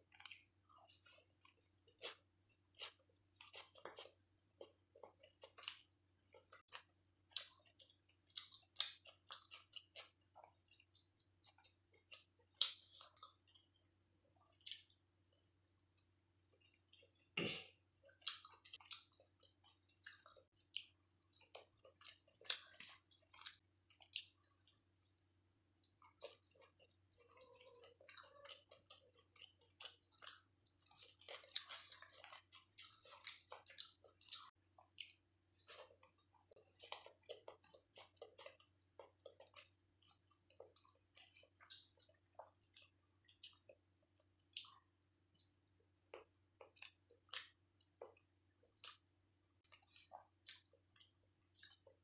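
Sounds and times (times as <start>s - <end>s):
close chewing with mouth smacks: 0.0s - 52.0s.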